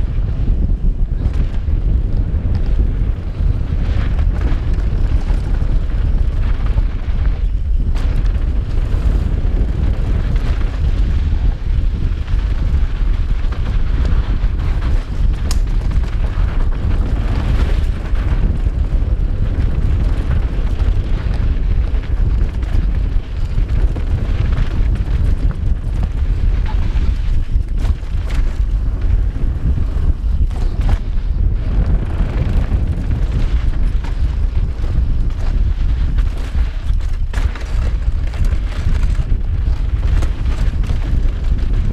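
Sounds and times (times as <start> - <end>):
bike tyres rattling over loose dirt: 0.0 - 41.9
wind rushing over microphone: 0.0 - 41.9.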